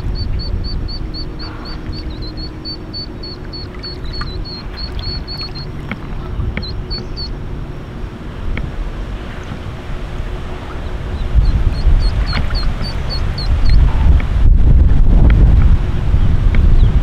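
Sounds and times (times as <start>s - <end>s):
ducklings peeping: 0.0s - 7.4s, 9.1s - 14.3s, 15.7s - 17.0s
wind rumble on microphone: 0.0s - 17.0s.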